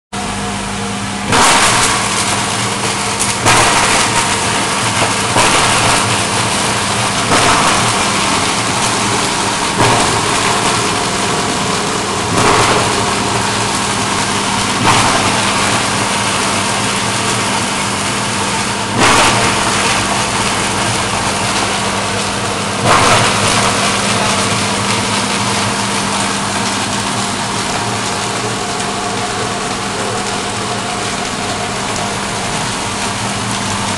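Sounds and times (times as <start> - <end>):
foam shredder rushing and cutting: 0.8 - 33.9.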